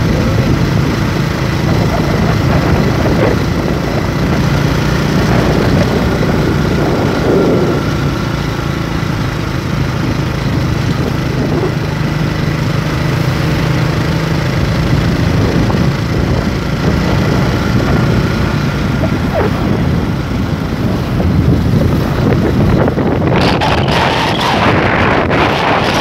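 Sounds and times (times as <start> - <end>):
road and wind noise: 0.0 - 26.0
vehicle engine running: 0.0 - 26.0
wind buffeting on microphone: 0.0 - 26.0.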